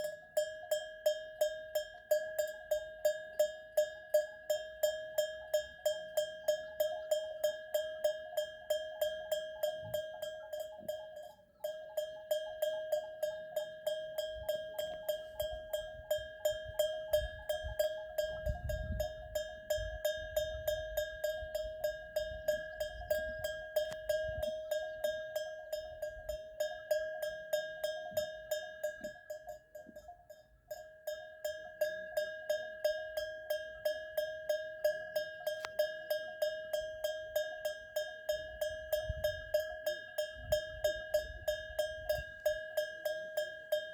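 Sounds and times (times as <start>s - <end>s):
goat bell clanking: 0.0s - 43.9s.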